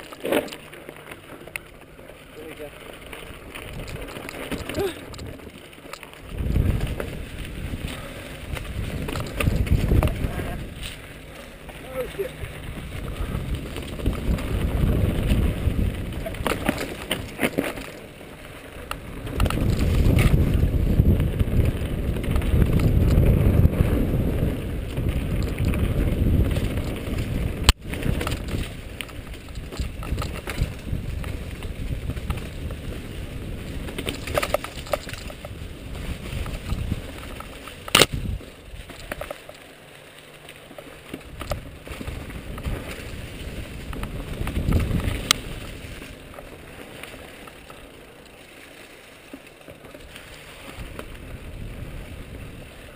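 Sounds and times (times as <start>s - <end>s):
bike tyre and trail noise: 0.0s - 52.9s
wind rumble on microphone: 2.4s - 39.4s, 41.1s - 48.1s, 50.0s - 52.9s.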